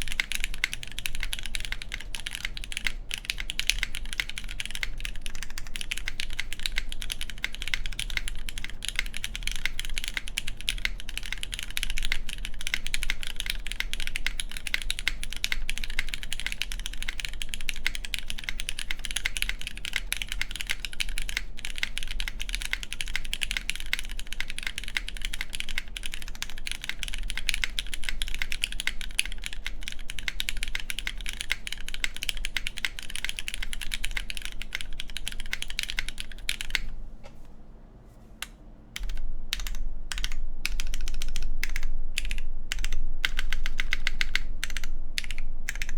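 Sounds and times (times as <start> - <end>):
fast mechanical keyboard typing: 0.0 - 37.0, 39.0 - 45.9.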